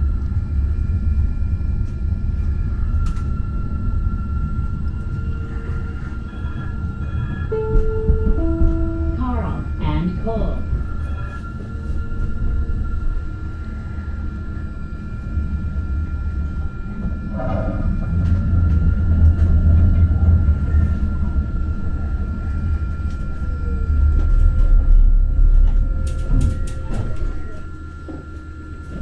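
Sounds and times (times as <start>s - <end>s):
high whine of train: 0.0s - 29.0s
light rail car rumbling: 0.0s - 29.0s.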